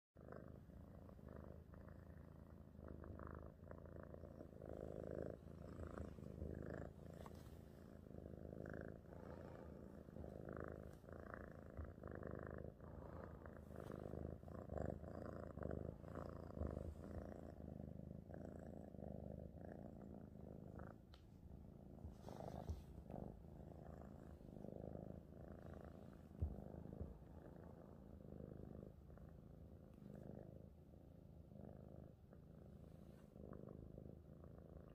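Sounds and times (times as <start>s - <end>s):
cat purring: 0.2s - 34.9s.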